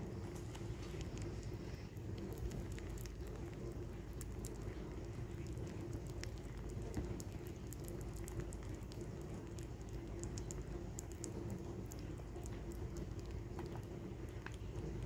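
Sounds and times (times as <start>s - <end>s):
rabbit chewing: 0.0s - 15.0s.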